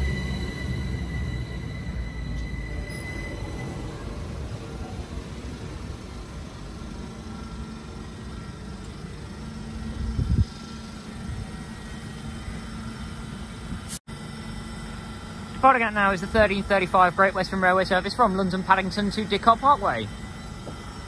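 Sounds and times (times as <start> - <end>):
train equipment humming: 0.0 - 21.0.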